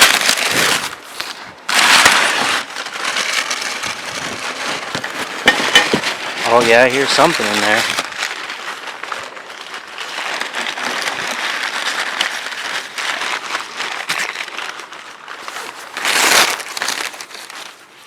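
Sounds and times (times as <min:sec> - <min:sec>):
hands rummaging in cardboard box: 0:00.0 - 0:18.0
packing material crinkling: 0:00.0 - 0:18.0.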